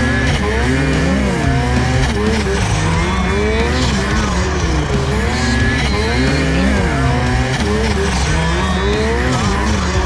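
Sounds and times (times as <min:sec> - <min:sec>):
snowmobile engine revving: 0:00.0 - 0:10.0.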